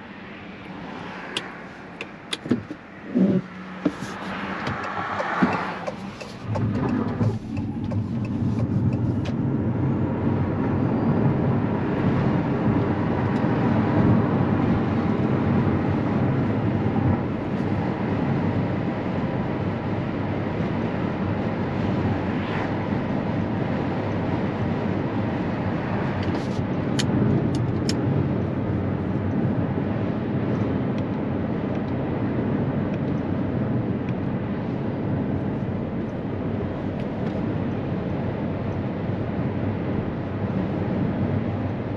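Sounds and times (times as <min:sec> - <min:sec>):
road and tyre noise: 0:00.0 - 0:41.9.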